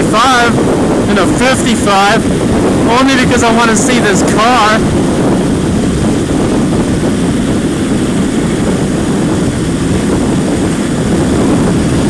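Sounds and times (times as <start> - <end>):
motorcycle engine running: 0.0 - 12.0
wind buffeting helmet microphone: 0.0 - 12.0.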